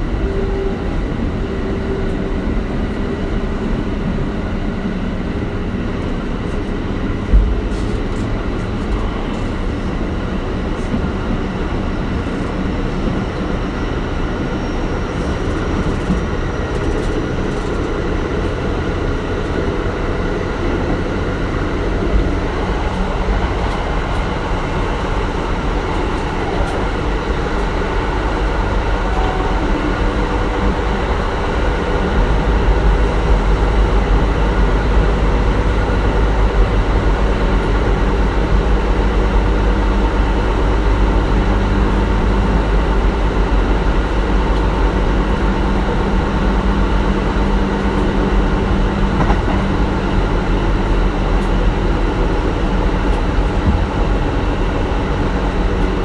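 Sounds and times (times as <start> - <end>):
train motor and wheels on rails: 0.0 - 56.0.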